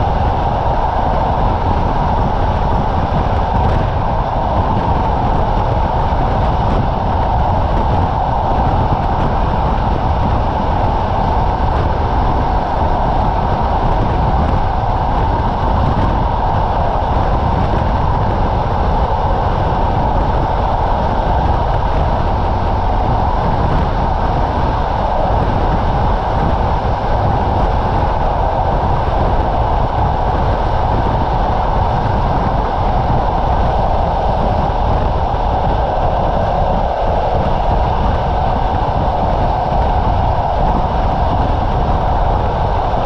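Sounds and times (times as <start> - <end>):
rushing noise: 0.0 - 43.0
train wheels rumbling on rail: 0.0 - 43.0.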